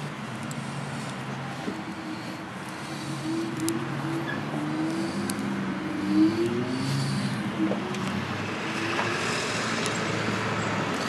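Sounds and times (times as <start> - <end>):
road traffic noise: 0.0 - 11.0
vehicle engine running: 0.0 - 11.0.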